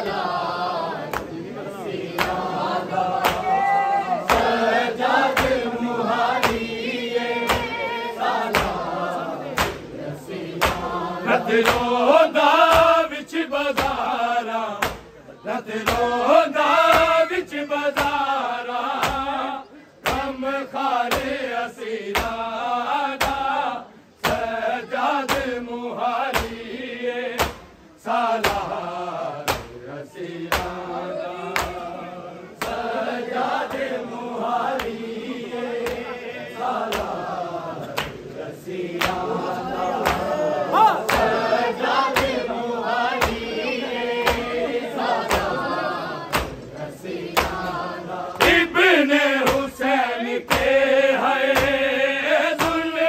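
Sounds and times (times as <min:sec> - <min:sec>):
men chanting in unison: 0:00.0 - 0:53.0.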